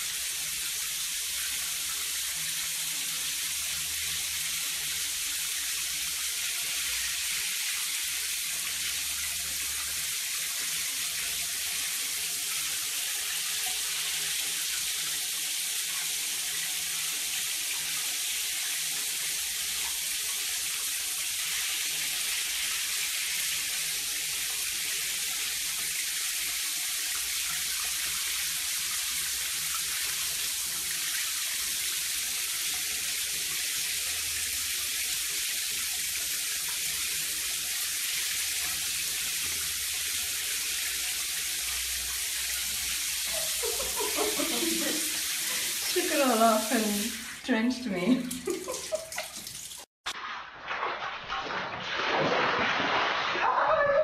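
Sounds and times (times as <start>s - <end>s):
shower water on tiled floor: 0.0s - 54.0s.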